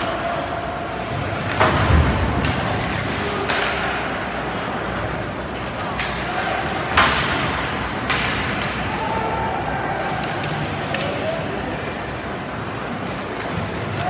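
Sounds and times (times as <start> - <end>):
hockey sticks knocking puck: 0.0 - 11.7.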